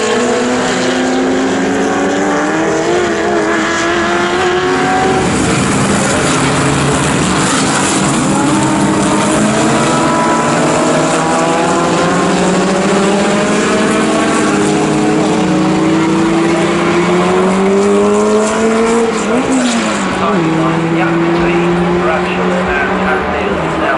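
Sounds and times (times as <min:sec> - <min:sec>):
racing car engines running hard: 0:00.0 - 0:23.9.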